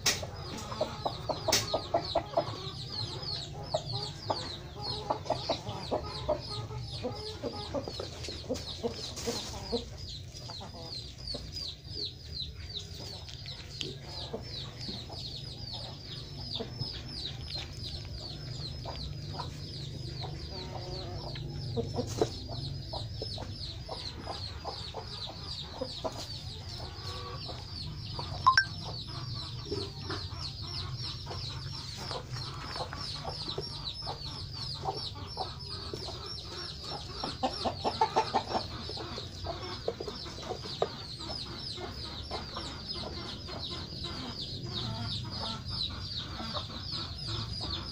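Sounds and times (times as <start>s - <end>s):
chickens peeping: 0.0s - 47.9s.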